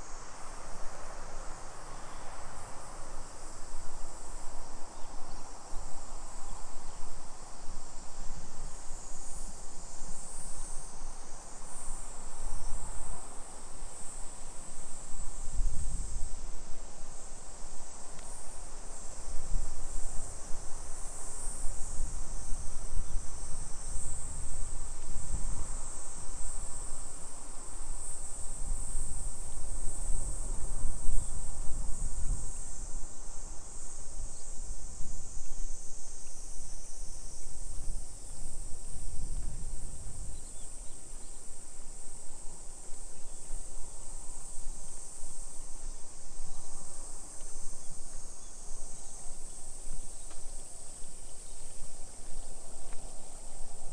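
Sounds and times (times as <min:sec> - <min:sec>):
insects chirping: 0:04.9 - 0:53.9.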